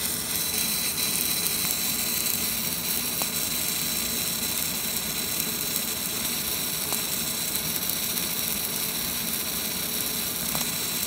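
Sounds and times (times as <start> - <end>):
laser engraver hiss and whine: 0.0 - 11.0.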